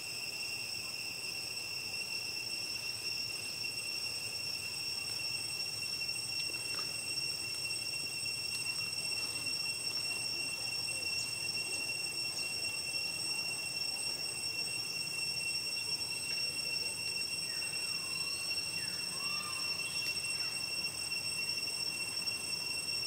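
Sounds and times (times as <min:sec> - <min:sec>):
high-pitched whine: 0:00.0 - 0:23.0.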